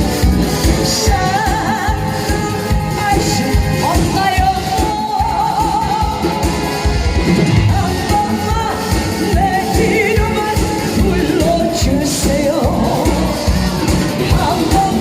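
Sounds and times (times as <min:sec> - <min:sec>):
backing music with steady beat: 0:00.0 - 0:15.0
person singing: 0:00.0 - 0:15.0.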